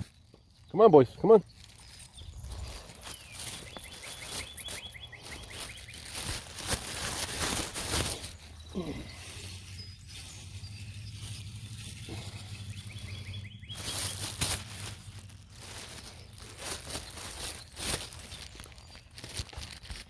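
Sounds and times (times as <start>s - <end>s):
plastic bag rustling: 1.4s - 20.0s.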